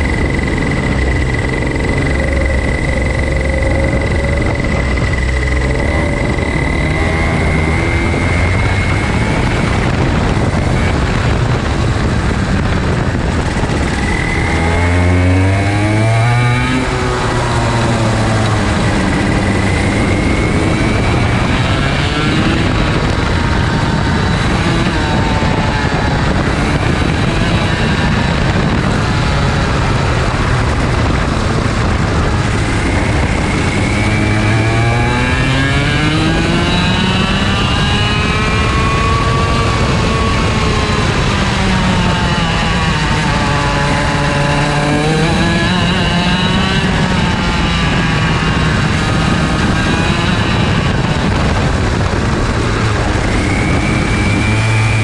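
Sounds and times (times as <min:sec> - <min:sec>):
kart engine racing: 0:00.0 - 0:55.0.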